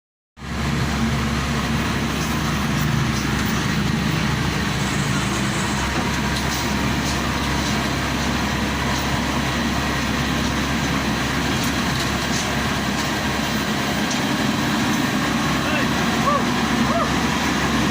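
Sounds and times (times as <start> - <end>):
combine harvester engine running: 0.4 - 17.9.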